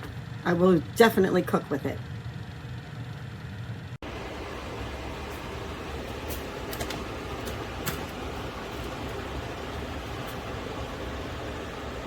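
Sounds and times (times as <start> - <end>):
oven fan humming: 0.0 - 12.0.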